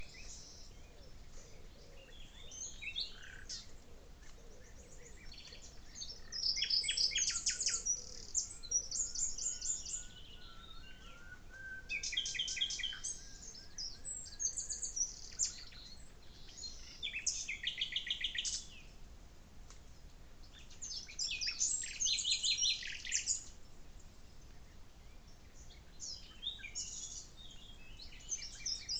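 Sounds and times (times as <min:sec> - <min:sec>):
faint steady hiss: 0:00.0 - 0:28.9
songbirds trilling and chirping: 0:00.0 - 0:28.9.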